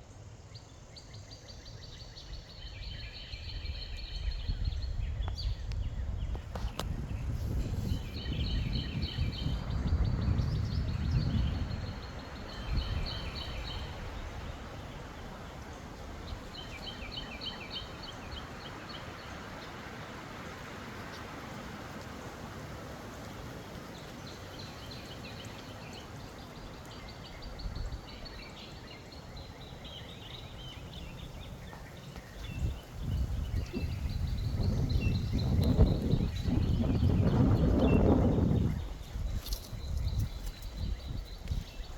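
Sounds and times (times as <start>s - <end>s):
songbird chirping: 0.0s - 41.9s
wind buffeting microphone: 2.2s - 20.0s, 20.6s - 41.9s.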